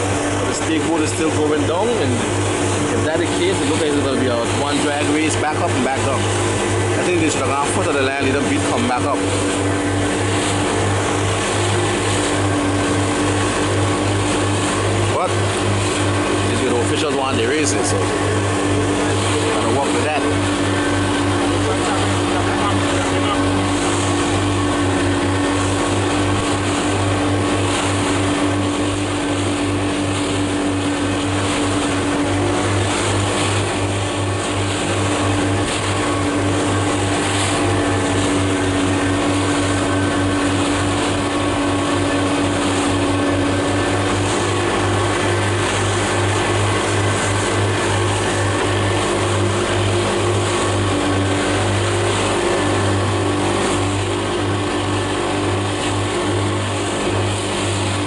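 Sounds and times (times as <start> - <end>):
motorboat engine droning: 0.0 - 58.0
wind and water rushing: 0.0 - 58.0.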